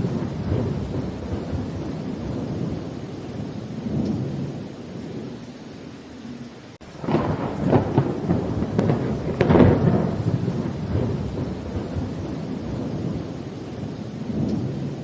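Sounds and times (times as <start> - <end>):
crackling thunderclap rumbling: 0.0 - 5.4, 6.8 - 15.0
steady rain: 0.0 - 15.0.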